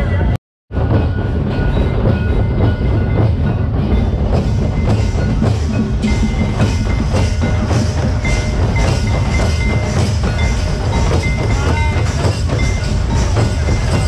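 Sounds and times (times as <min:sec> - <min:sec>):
hand drums beating fast rhythm: 0:00.9 - 0:14.0.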